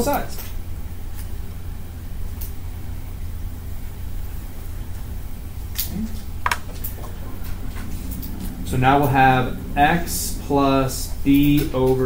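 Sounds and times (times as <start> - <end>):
classroom room hum: 0.0 - 12.0.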